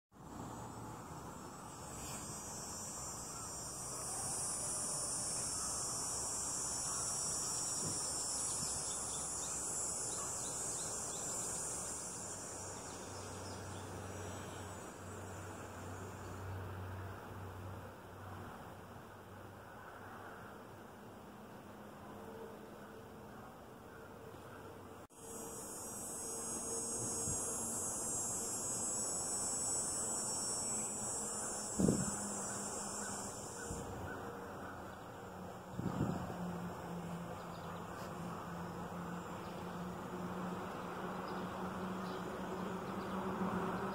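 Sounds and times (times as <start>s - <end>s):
cicadas buzzing: 0.2s - 19.1s, 25.1s - 43.9s.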